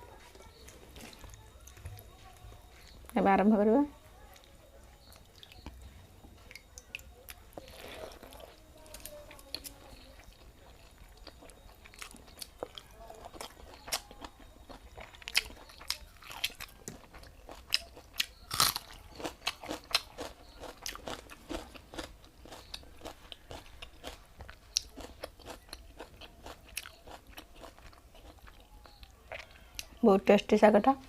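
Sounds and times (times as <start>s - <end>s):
crunching bites and chewing: 4.3s - 30.0s.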